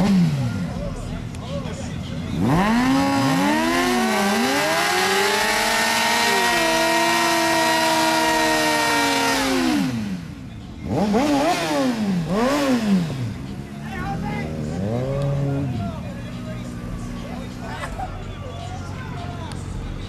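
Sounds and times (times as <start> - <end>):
motorcycle engine revving: 0.0 - 20.0
tire burnout: 0.0 - 20.0.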